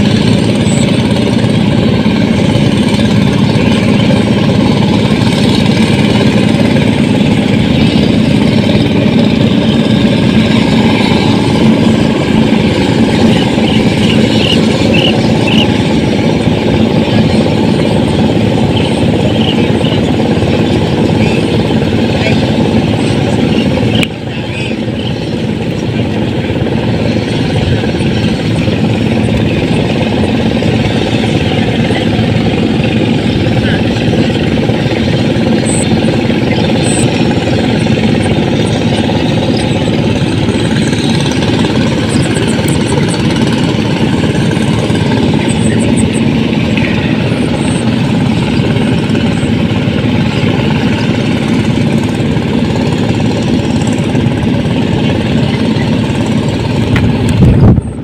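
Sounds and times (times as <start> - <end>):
small engine humming: 0.0 - 58.0.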